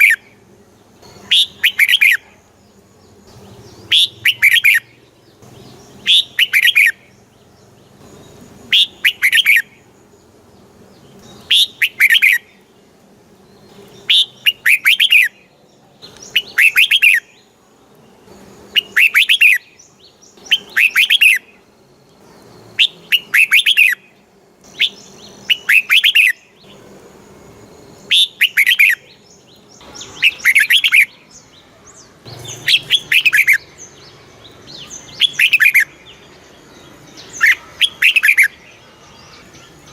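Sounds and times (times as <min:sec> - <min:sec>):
bulbul singing warbling phrases: 0:00.0 - 0:09.9, 0:10.9 - 0:12.8, 0:13.6 - 0:17.6, 0:18.7 - 0:21.6, 0:22.3 - 0:26.8, 0:28.0 - 0:39.9.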